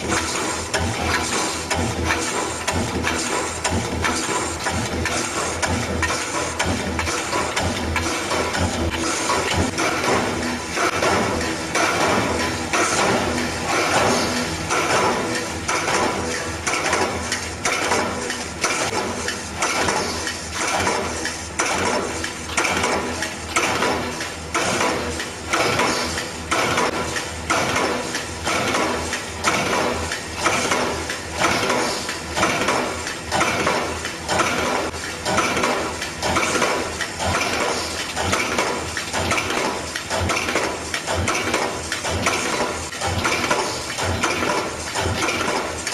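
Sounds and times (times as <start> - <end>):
press stamping rhythmically: 0.0 - 45.9.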